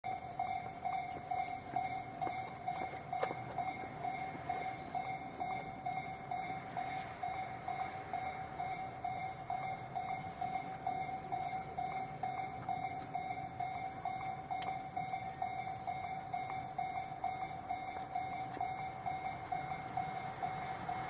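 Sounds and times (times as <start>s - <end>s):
level-crossing warning bell: 0.0s - 21.0s.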